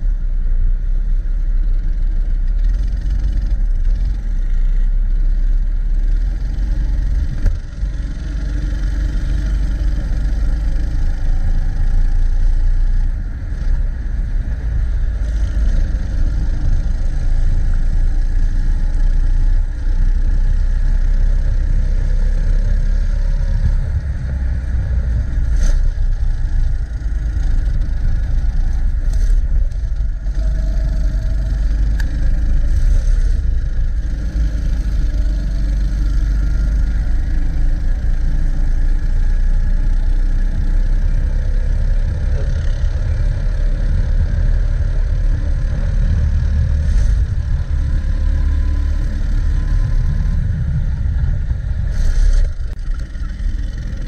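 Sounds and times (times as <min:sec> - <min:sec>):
go-kart engine revving: 0:05.9 - 0:54.0.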